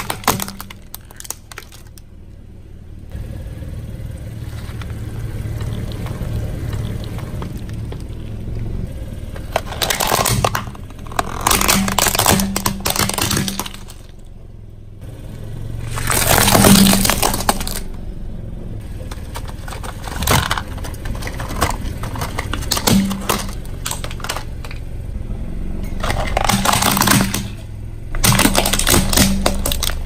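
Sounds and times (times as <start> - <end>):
plastic toys cracking under tyre: 0.0 - 2.1, 4.4 - 14.3, 15.8 - 18.0, 18.9 - 24.9, 25.8 - 30.0.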